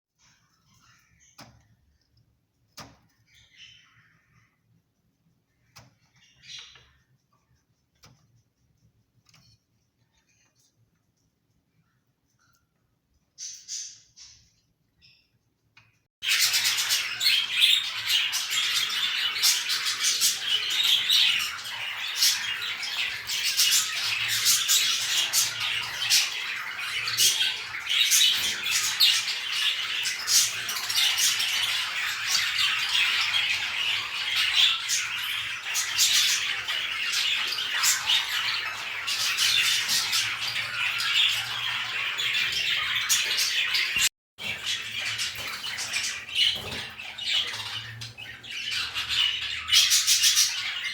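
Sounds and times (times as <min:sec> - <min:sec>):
cage birds chattering: 0:00.2 - 0:50.9.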